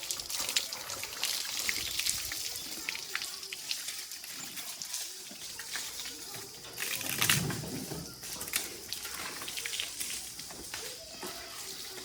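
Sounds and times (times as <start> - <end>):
wet mud pouring and splashing: 0.0 - 12.0.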